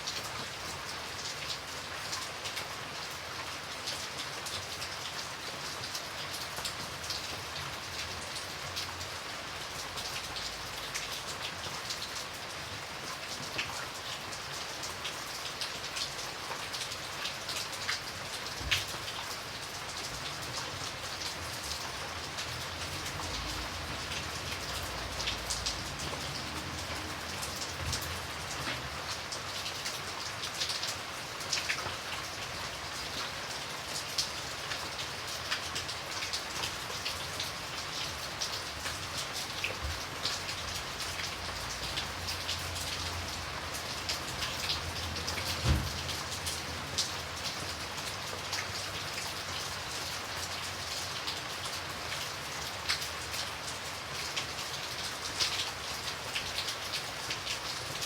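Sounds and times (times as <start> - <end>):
rain falling: 0.0 - 58.0
raindrops ticking close by: 0.0 - 58.0.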